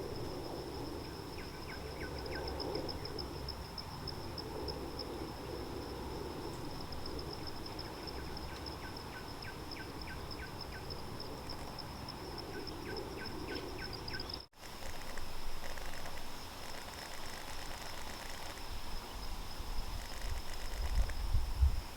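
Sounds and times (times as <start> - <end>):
high insect trill: 0.0 - 21.9.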